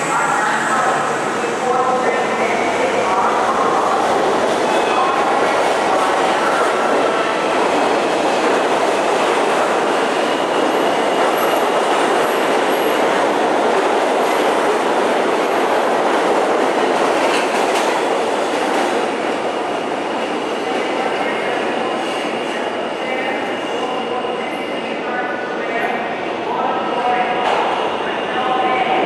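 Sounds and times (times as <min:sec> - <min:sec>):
subway train wheels rumbling: 0:00.0 - 0:29.0.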